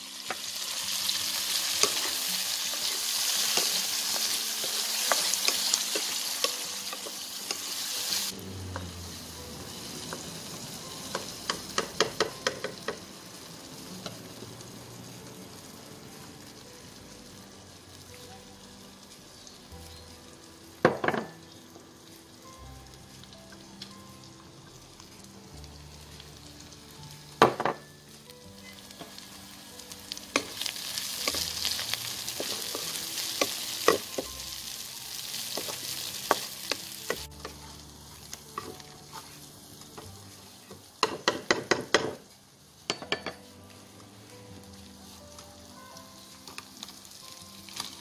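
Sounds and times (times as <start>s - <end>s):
prawns sizzling in a wok: 0.0s - 48.0s.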